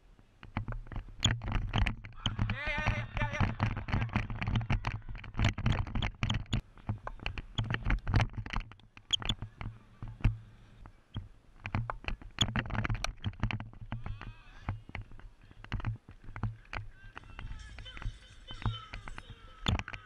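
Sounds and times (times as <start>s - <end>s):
camera rubbing scratches and knocks: 0.4s - 20.0s.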